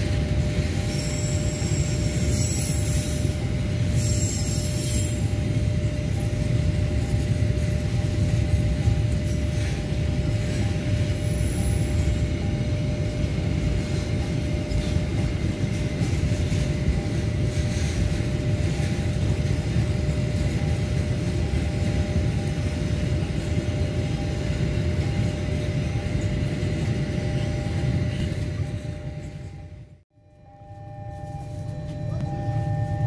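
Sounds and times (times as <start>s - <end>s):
freight train wagons rumbling: 0.0s - 30.0s
faint whining tones: 0.0s - 33.0s.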